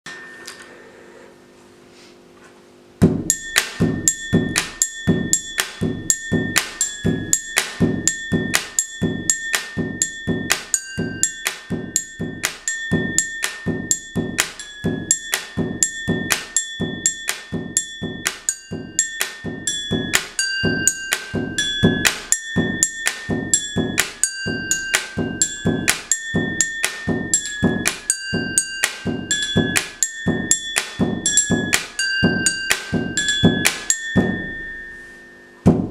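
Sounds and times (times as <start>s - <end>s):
pen ringing drinking glasses: 0.1s - 0.9s, 3.3s - 35.7s.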